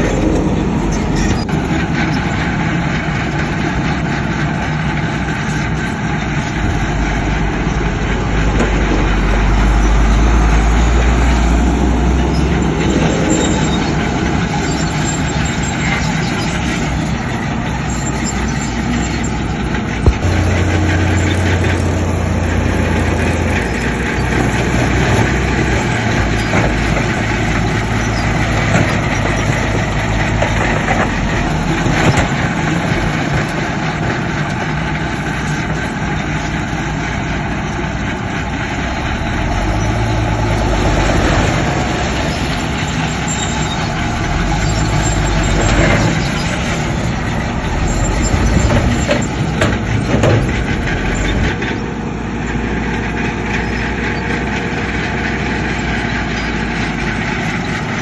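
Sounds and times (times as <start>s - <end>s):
heavy diesel machinery engines: 0.0s - 58.0s.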